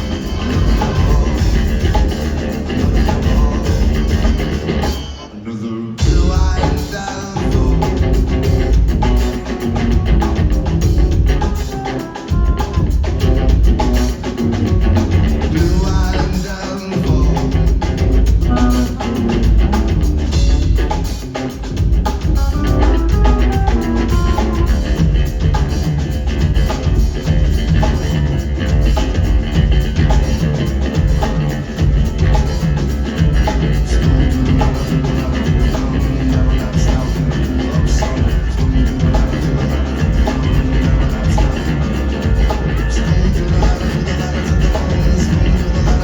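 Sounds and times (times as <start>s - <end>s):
heavy bass line: 0.0s - 5.1s, 6.0s - 46.0s
live rock band playing: 0.0s - 5.3s, 6.0s - 46.0s
drums: 0.0s - 46.0s.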